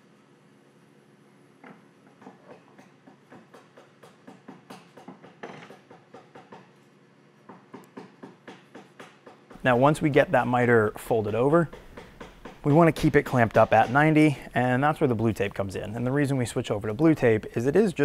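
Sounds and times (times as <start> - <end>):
faint shop hum: 0.0 - 18.0.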